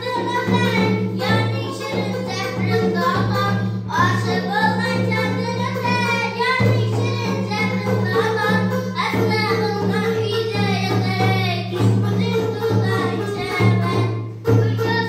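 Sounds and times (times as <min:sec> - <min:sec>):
girl singing: 0:00.0 - 0:15.0
strummed lute: 0:00.0 - 0:15.0.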